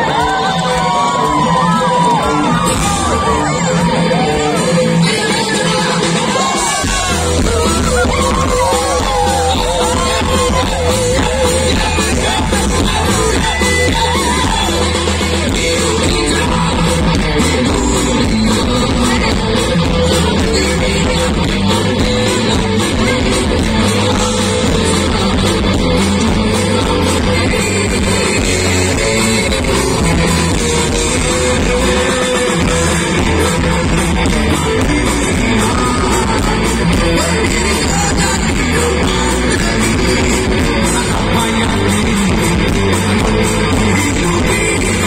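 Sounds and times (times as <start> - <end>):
live rock band playing: 0.0 - 45.0
person singing: 0.0 - 45.0.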